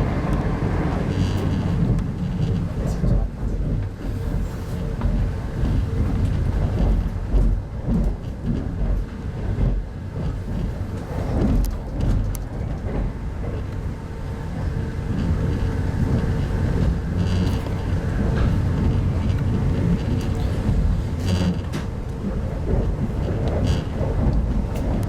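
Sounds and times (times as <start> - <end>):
wheels rumbling on rail: 0.0 - 25.0.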